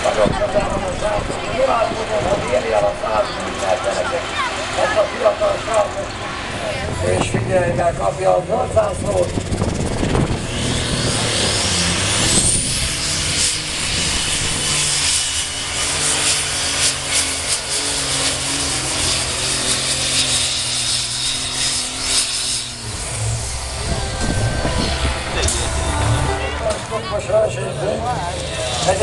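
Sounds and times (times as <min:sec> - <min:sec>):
crackling exhaust: 0:00.0 - 0:29.0
diesel engine running flat out: 0:00.0 - 0:29.0
turbo whine: 0:00.0 - 0:29.0.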